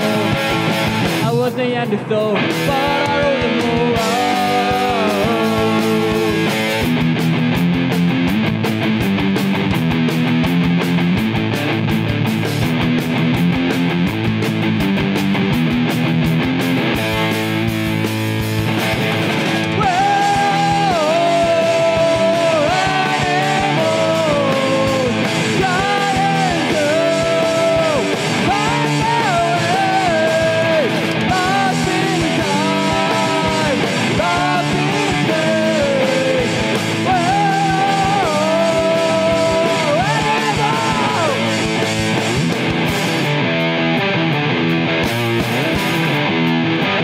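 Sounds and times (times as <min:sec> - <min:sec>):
distorted electric guitar: 0:00.0 - 0:47.0
drum kit: 0:00.0 - 0:47.0.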